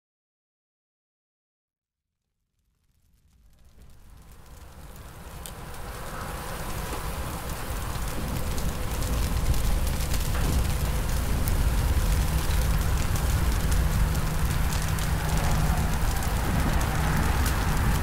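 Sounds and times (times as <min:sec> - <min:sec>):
sharp crackles: 0:02.4 - 0:18.0
sap boiling in evaporator pan: 0:03.2 - 0:18.0.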